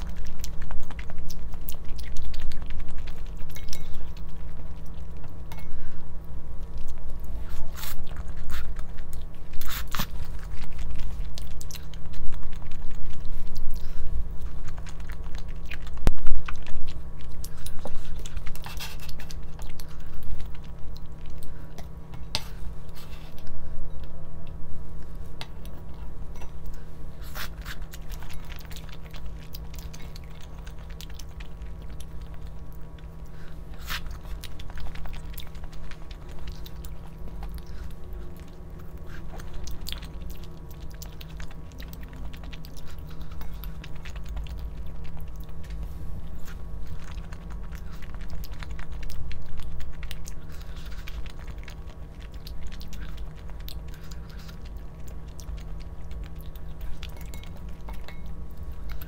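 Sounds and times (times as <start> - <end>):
person chewing and crunching food: 0.0 - 59.0
steady low hum: 0.0 - 59.0.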